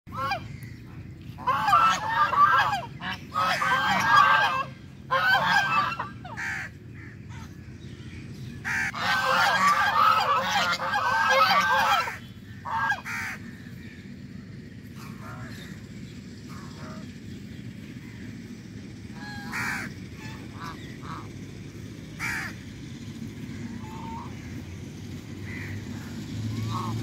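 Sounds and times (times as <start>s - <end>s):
geese honking: 0.1s - 7.7s, 8.6s - 27.0s.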